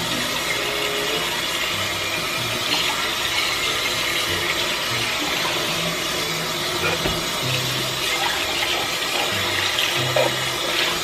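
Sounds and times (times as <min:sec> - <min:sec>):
faucet running into steel sink: 0:00.0 - 0:11.0.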